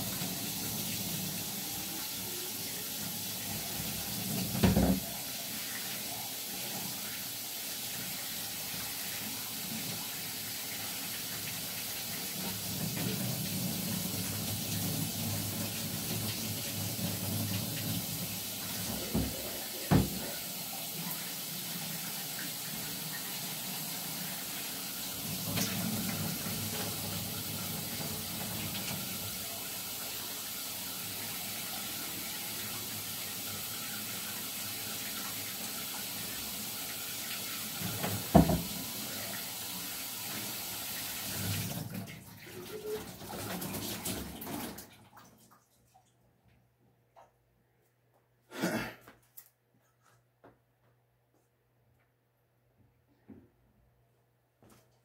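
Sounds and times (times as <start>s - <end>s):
tap water running in sink: 0.0s - 45.4s.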